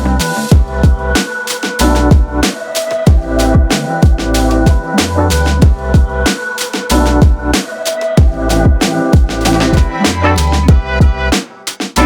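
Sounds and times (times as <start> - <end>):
drum and bass electronic music: 0.0 - 12.0.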